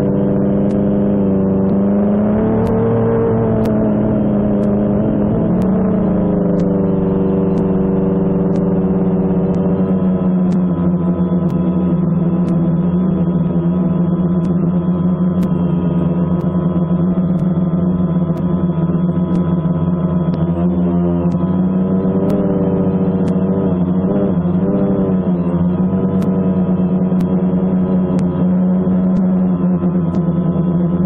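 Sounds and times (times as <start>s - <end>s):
drone motors buzzing: 0.0s - 31.0s.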